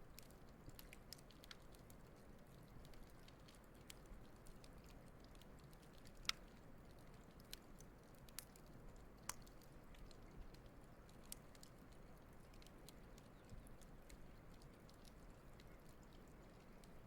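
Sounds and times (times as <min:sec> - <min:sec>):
low soft fire rumble: 0:00.0 - 0:17.0
fire crackling and popping: 0:00.1 - 0:17.0.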